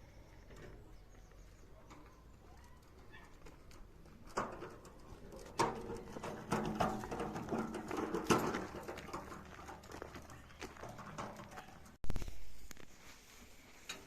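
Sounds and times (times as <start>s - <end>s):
farm animal sounds: 0.0s - 12.0s.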